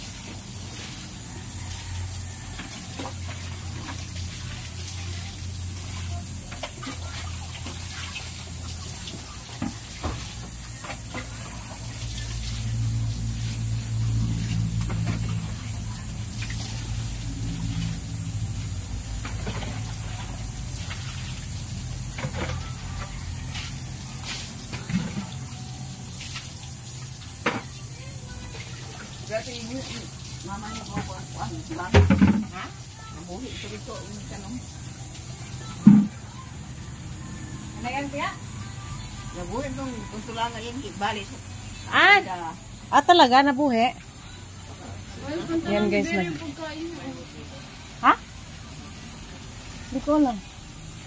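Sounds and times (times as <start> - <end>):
water splashing onto plants: 0.0 - 37.1, 45.0 - 51.0.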